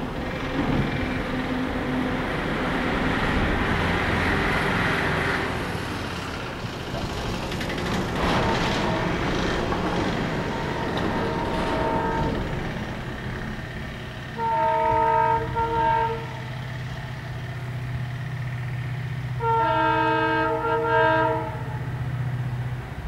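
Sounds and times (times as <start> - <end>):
locomotive engine rumbling: 0.0 - 23.0.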